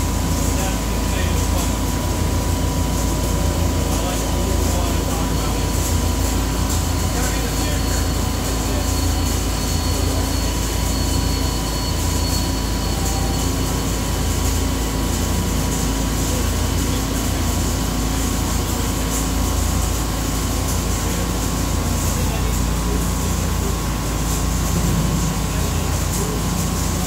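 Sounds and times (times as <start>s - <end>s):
machinery low hum: 0.0s - 27.0s
thin steady whines: 0.0s - 27.0s.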